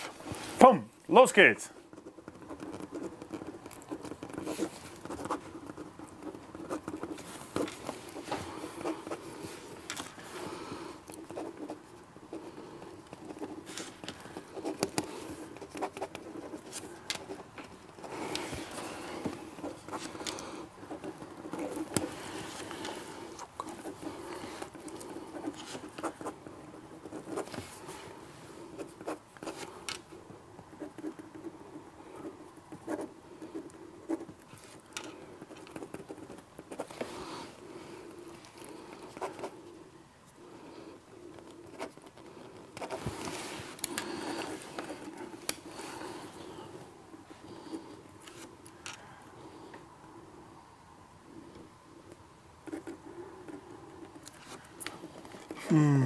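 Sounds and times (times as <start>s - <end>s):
pens scratching on paper: 1.8s - 39.8s, 40.8s - 46.7s, 52.6s - 55.6s.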